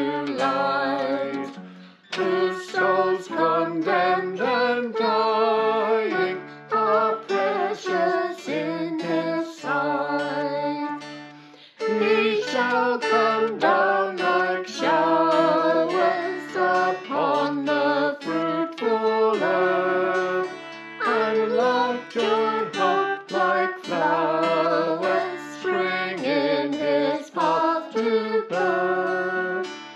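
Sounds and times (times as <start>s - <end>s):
group singing a hymn: 0.0s - 11.0s, 11.6s - 29.9s
guitar: 0.0s - 29.9s.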